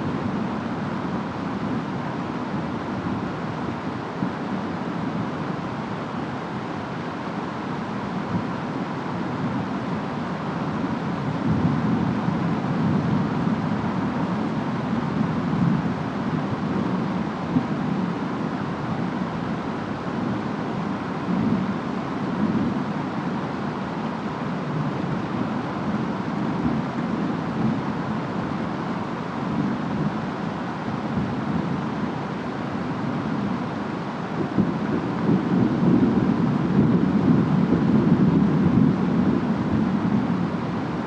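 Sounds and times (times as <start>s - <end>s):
rain: 0.0s - 41.0s
wind: 0.0s - 41.0s.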